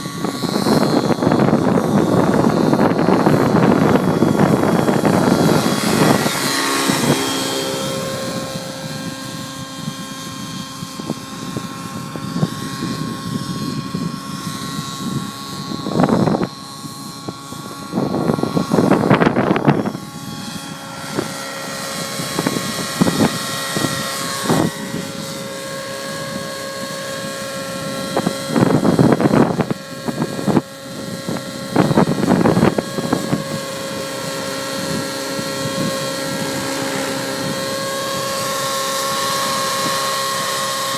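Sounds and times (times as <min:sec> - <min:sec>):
model helicopter engine whine: 0:00.0 - 0:40.9
wind rumble on microphone: 0:00.0 - 0:40.9.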